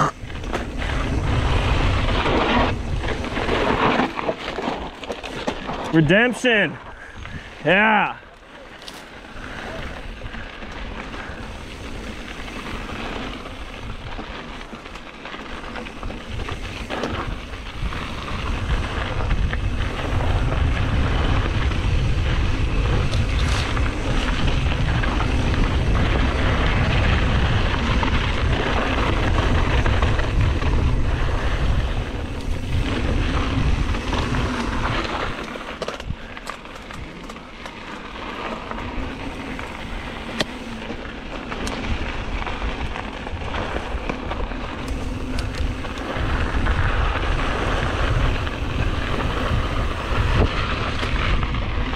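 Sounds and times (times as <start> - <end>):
wind buffeting microphone: 0.0 - 5.9, 6.8 - 7.8, 15.5 - 51.9
bike tyres rolling on dirt: 0.0 - 51.9.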